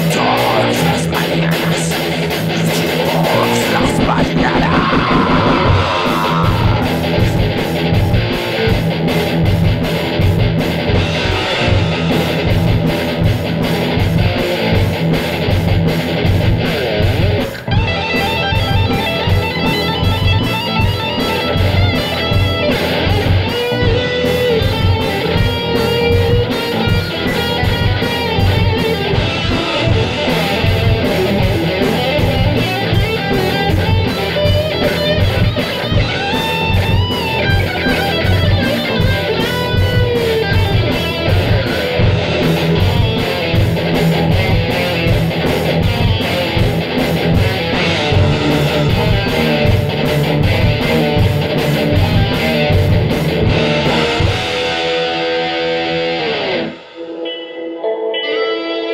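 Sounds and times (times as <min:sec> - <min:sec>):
heavy metal band playing: 0:00.0 - 0:58.9.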